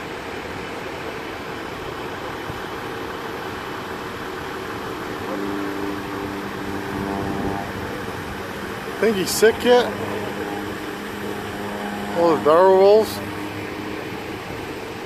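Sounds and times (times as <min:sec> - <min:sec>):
engine noise: 0:00.0 - 0:15.0
pitched hum: 0:00.0 - 0:15.0.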